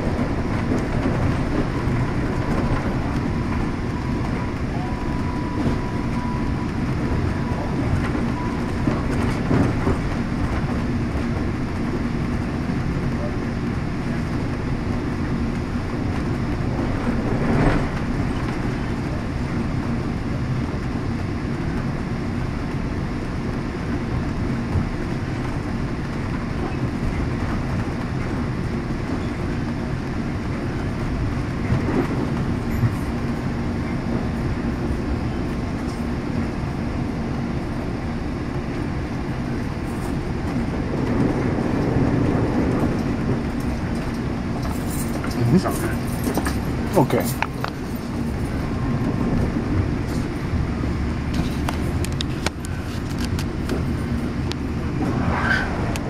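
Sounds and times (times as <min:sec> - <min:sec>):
moving train rumble: 0:00.0 - 0:56.0.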